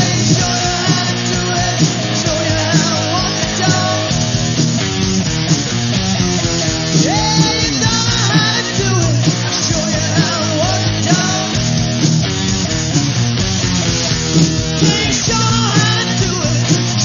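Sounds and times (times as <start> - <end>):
electric guitar sliding lead notes: 0.0 - 17.0
punk rock band playing: 0.0 - 17.0.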